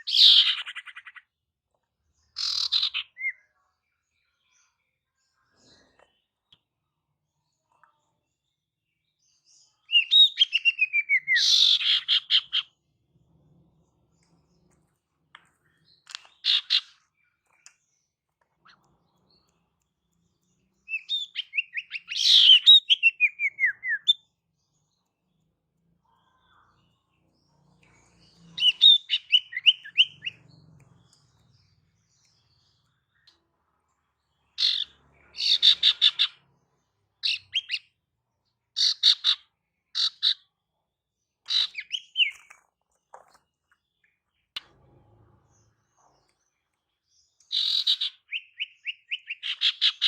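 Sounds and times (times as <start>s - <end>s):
bird song with descending chirps: 2.1s - 50.0s.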